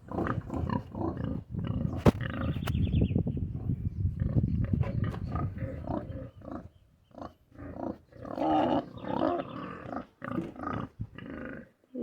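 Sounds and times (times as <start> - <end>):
pigs grunting: 0.0 - 2.6, 4.2 - 11.8.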